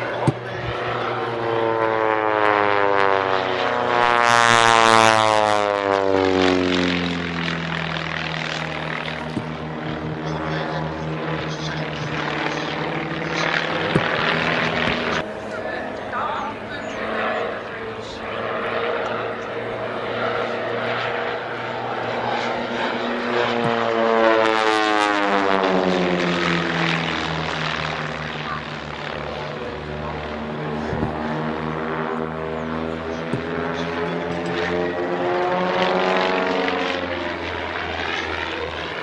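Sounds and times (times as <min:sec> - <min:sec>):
propeller planes droning: 0:00.0 - 0:39.0.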